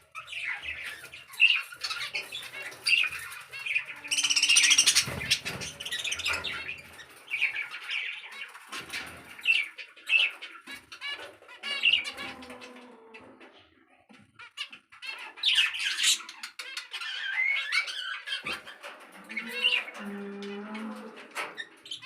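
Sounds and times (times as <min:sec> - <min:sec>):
cage birds chirping and chattering: 0:00.0 - 0:22.0.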